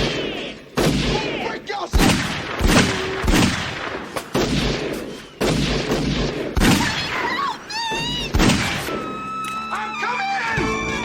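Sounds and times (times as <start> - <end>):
booming gunshots with echo: 0.0 - 9.1.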